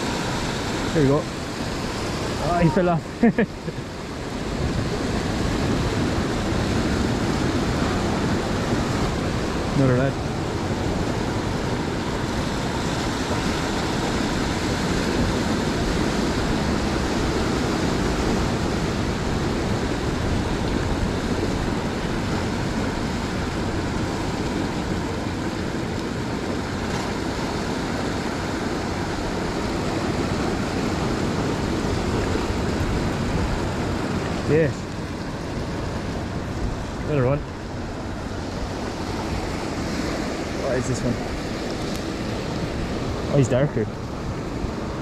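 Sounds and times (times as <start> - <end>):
sea surf washing over rocks: 0.0 - 45.0.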